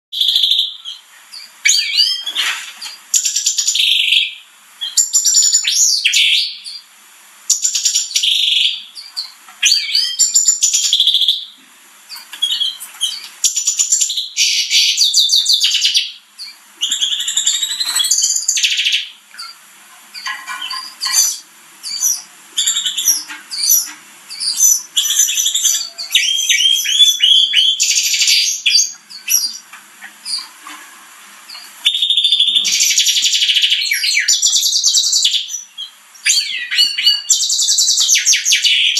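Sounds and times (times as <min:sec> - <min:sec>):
canary singing trills and whistles: 0:00.1 - 0:06.9, 0:07.5 - 0:30.7, 0:31.4 - 0:38.9.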